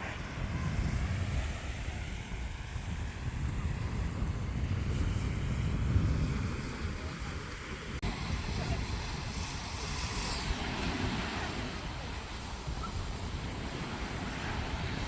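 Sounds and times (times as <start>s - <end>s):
sea waves washing onto shore: 0.0s - 15.0s
wind buffeting microphone: 0.0s - 15.0s.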